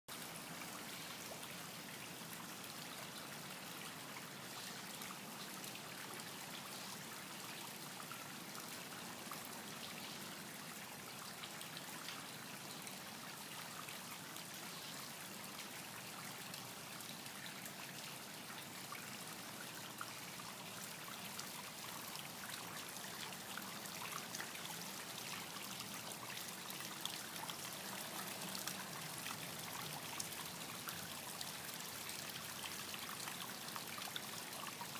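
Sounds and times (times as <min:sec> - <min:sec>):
fine water drips: 0:00.1 - 0:34.9
water trickling in a pond: 0:00.1 - 0:34.9.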